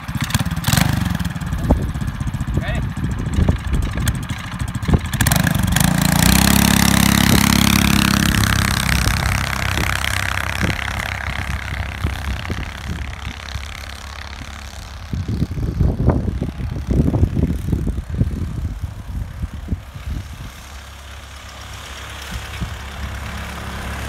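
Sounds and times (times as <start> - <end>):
engine idling and revving: 0.0 - 24.0.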